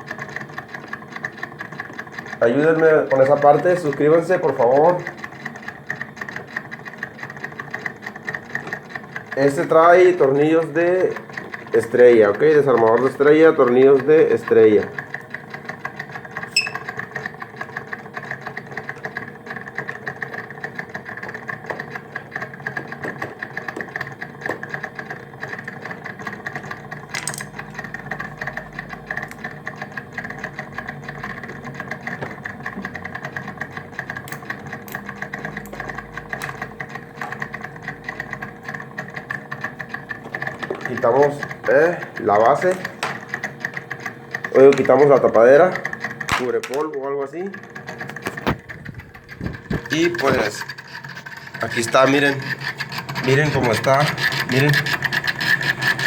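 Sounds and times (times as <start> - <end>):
fan motor humming: 0.0 - 56.0
vibration rattle: 0.0 - 56.0.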